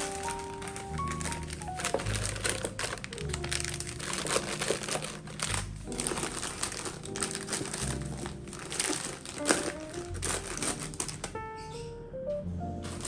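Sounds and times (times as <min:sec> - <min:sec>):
sachets dropping into plastic container: 0:00.0 - 0:11.3
plastic sachets crinkling: 0:00.0 - 0:11.8
background music: 0:00.0 - 0:13.0.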